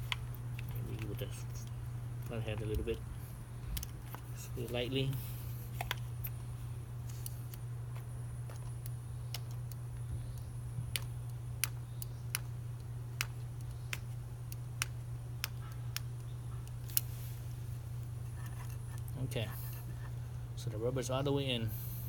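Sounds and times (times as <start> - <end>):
light sharp rubber clicks: 0.0 - 6.4, 7.0 - 19.2
steady low hum: 0.0 - 22.0.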